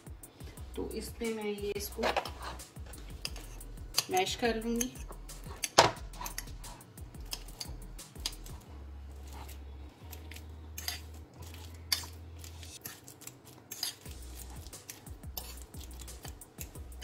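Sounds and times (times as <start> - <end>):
fork mashing banana in bowl: 1.7 - 17.0.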